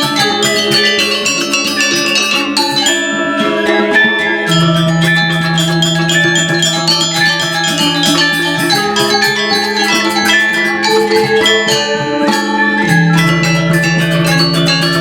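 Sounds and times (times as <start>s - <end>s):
gamelan playing: 0.0s - 15.0s.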